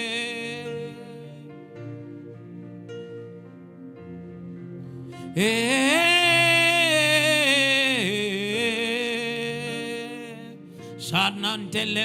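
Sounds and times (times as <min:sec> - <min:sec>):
soft keyboard chords: 0:00.0 - 0:12.0.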